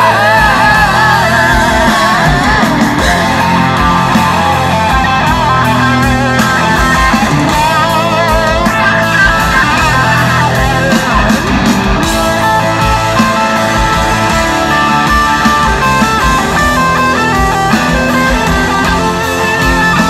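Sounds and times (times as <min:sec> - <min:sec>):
bass guitar: 0:00.0 - 0:20.0
drums: 0:00.0 - 0:20.0
lead electric guitar: 0:00.0 - 0:20.0.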